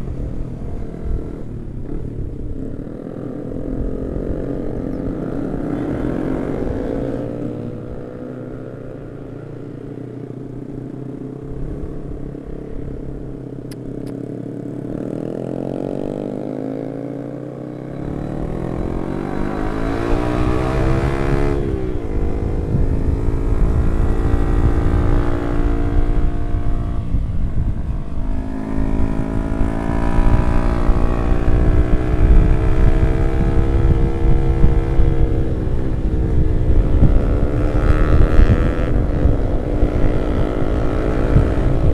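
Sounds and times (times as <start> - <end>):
motorcycle engine accelerating: 0.0 - 41.9
wind rumbling on microphone: 0.0 - 41.9.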